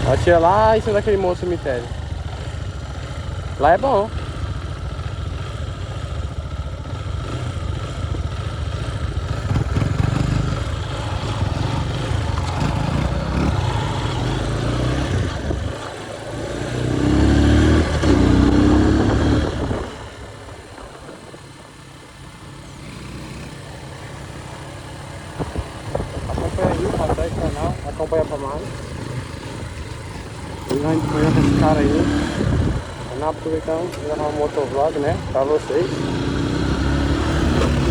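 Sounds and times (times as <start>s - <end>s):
motorcycle engine rumbling: 0.0s - 37.9s.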